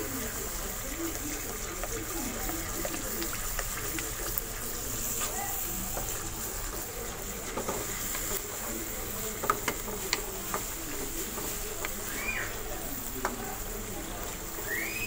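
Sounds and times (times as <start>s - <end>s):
curry simmering with pops: 0.0s - 15.0s
wooden spoon stirring pan: 0.0s - 15.0s.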